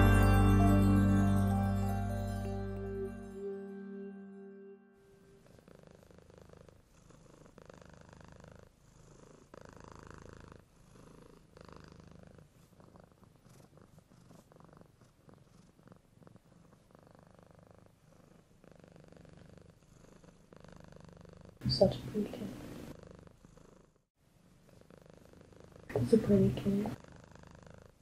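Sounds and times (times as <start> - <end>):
cat purring: 5.1 - 28.0.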